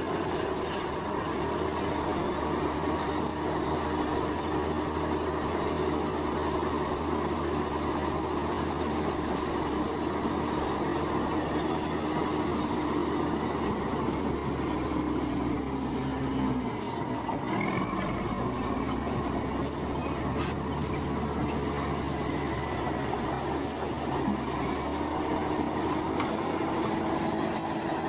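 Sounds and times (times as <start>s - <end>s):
heavy diesel machinery running: 0.0s - 28.0s.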